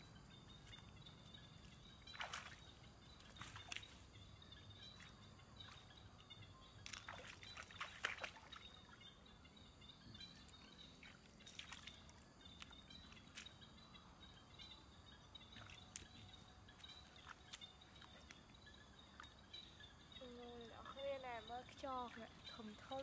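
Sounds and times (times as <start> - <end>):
stream water splashing and dripping: 0.0 - 9.3, 10.1 - 14.0, 15.4 - 23.0.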